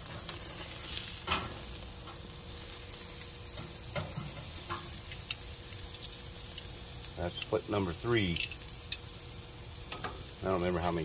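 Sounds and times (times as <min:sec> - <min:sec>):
fat crackling and popping: 0:00.0 - 0:11.0
meat sizzling on grill: 0:00.0 - 0:11.0.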